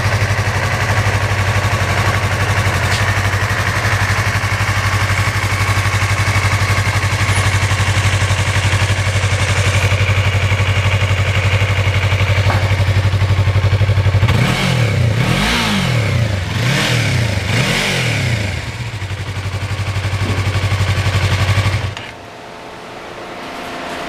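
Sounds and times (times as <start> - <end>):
motorcycle engine idling and revving: 0.0 - 22.2.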